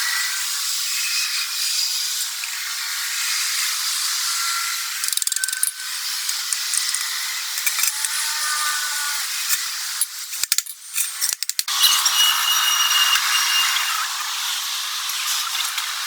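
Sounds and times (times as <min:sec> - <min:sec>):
metal machining noise: 0:00.0 - 0:16.0.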